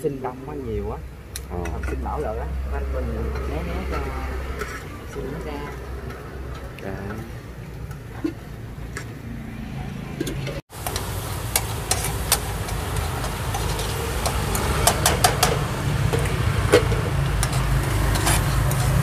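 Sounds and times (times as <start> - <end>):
motorbike traffic hum: 0.0 - 19.0.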